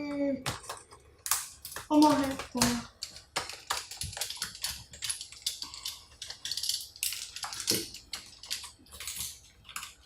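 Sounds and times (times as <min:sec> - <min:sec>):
handling plastic and metal parts: 0:00.4 - 0:10.0.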